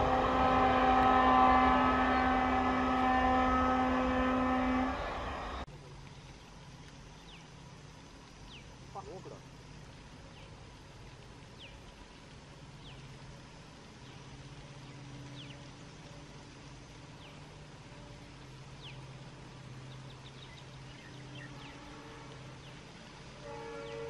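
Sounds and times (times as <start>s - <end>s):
distant diesel locomotive drone: 0.0s - 24.0s.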